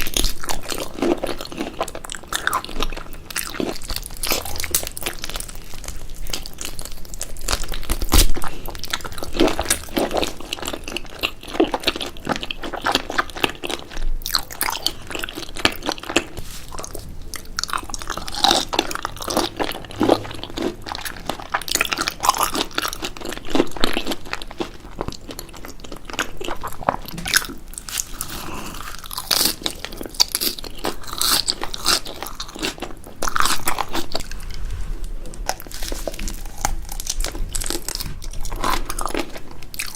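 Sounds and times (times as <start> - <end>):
crunching bites and chewing: 0.0 - 34.5, 35.2 - 39.9.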